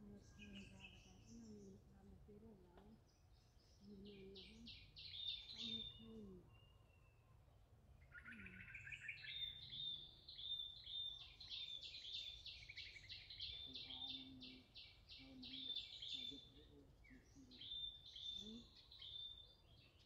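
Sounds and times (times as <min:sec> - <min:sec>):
lower bird trill: 0:03.0 - 0:07.4, 0:08.0 - 0:20.0.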